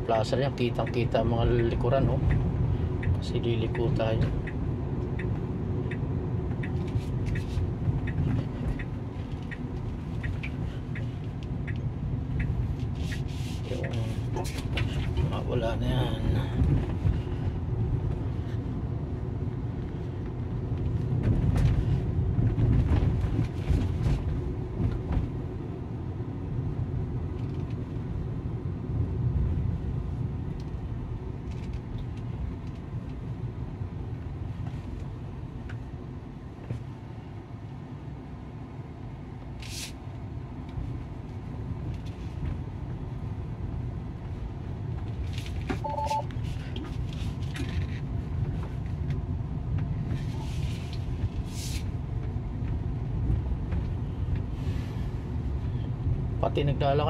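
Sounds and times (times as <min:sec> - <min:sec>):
road and tyre rumble: 0:00.0 - 0:57.0.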